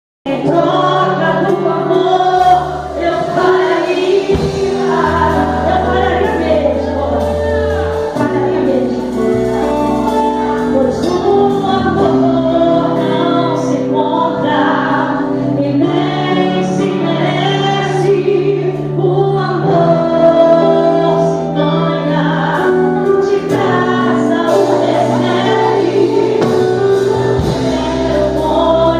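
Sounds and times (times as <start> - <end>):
instrumental accompaniment: 0.3 - 28.9
woman singing: 0.3 - 28.9.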